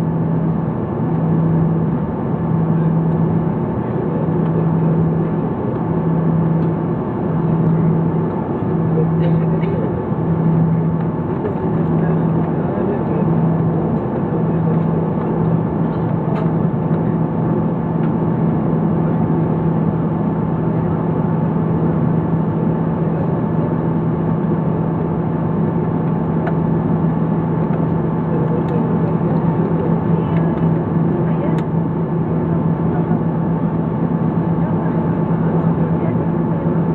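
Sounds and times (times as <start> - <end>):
airplane cabin engine hum: 0.0 - 36.9.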